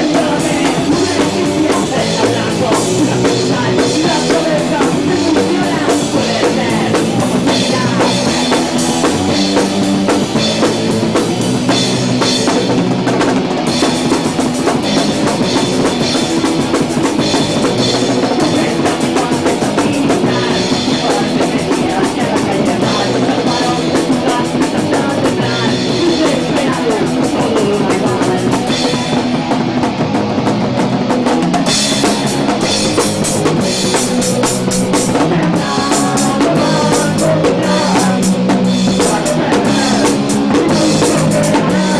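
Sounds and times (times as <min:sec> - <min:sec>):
drum kit with cymbals: 0:00.0 - 0:41.9
electric guitar: 0:00.0 - 0:41.9.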